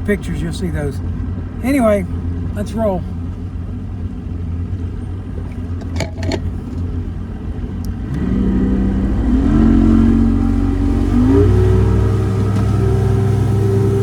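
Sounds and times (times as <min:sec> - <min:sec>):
boat motor running: 0:00.0 - 0:14.0.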